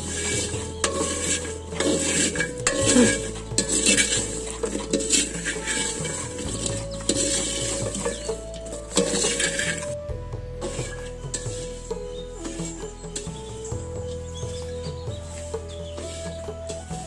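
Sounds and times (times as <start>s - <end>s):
wooden stick scraping a pan: 0.0s - 17.0s.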